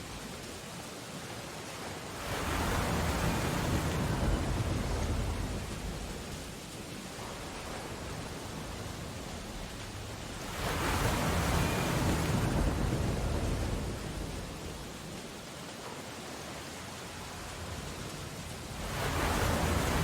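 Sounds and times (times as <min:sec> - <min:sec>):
ocean wave surging: 0:01.7 - 0:15.3, 0:16.3 - 0:20.0.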